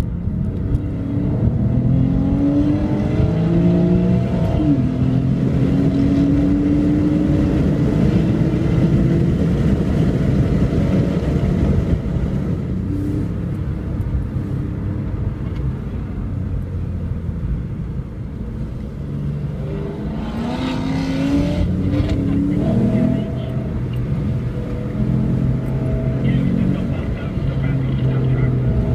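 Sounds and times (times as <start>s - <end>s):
car engine: 0.0s - 28.9s
road noise: 0.0s - 28.9s.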